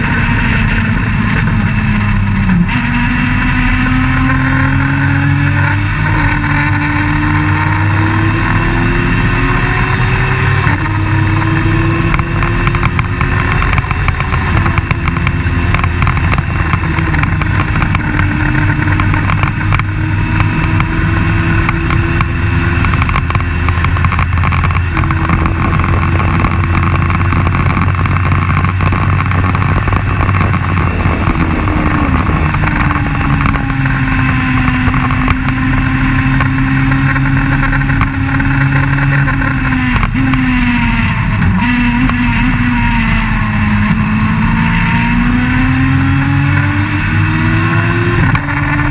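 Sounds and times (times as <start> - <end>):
heavy wind noise: 0.0 - 48.9
race car engine running hard: 0.0 - 48.9.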